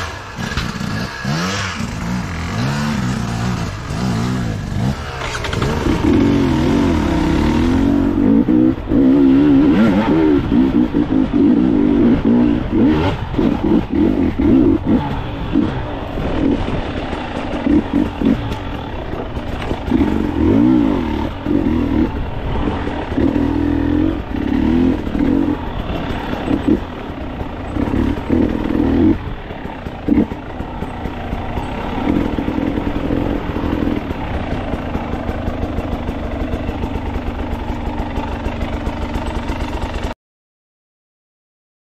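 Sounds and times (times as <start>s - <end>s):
dirt bike engine revving: 0.0s - 40.2s.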